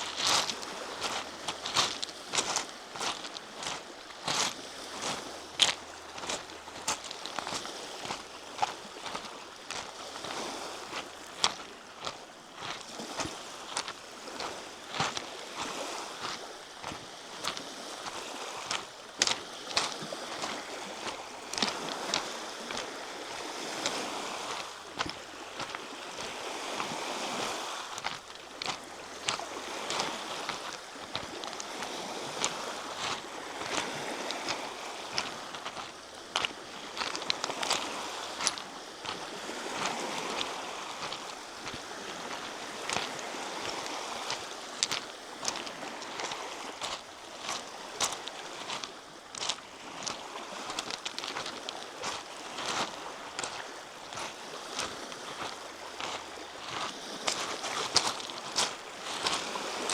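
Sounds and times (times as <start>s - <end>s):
footsteps crunching on a trail: 0.0s - 59.9s
waves rushing: 0.0s - 59.9s.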